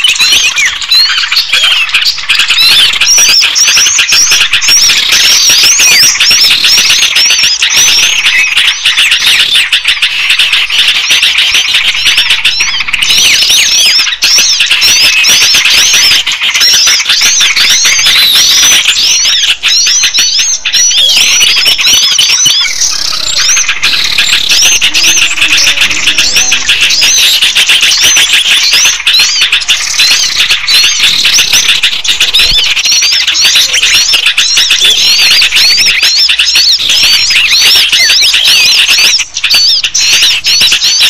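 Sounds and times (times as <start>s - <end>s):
small songbirds chirping: 0.0s - 41.0s.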